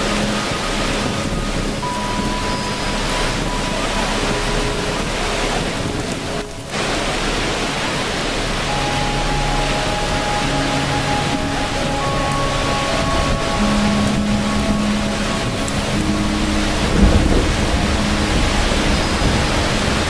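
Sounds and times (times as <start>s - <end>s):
rushing water: 0.0s - 20.0s
soft meditation music: 0.0s - 20.0s.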